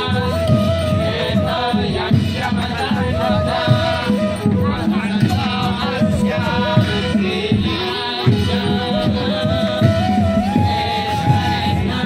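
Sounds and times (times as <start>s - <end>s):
drums: 0.0s - 12.0s
people singing: 0.0s - 12.0s.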